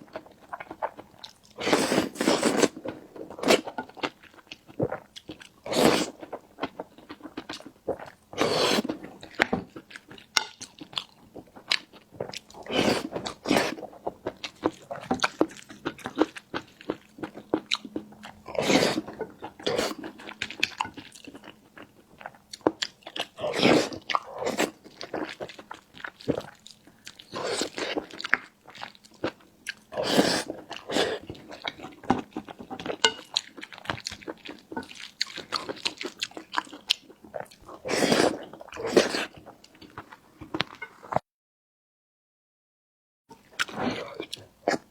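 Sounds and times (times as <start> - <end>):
chewing and biting: 0.1 - 40.8.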